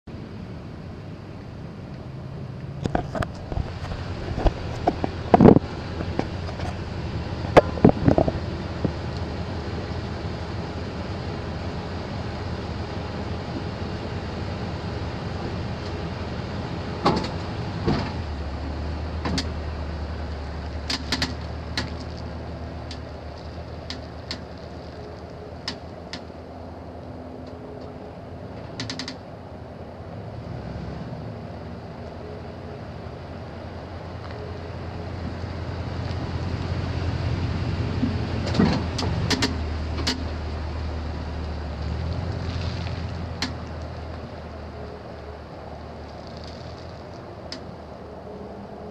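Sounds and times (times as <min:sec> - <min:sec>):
low engine hum: 0:00.0 - 0:48.9.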